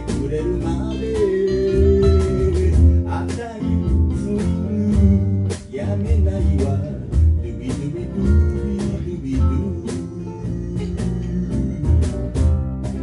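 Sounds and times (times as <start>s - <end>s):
harmonica melody: 0.0s - 5.5s, 7.4s - 13.0s
strummed guitars: 0.0s - 13.0s.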